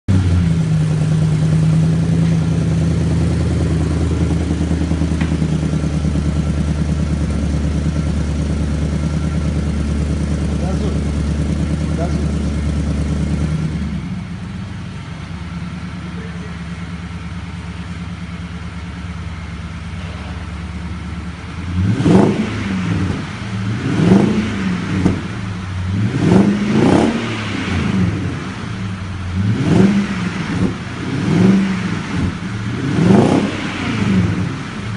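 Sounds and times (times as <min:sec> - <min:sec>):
engine idling and revving: 0:00.0 - 0:34.9.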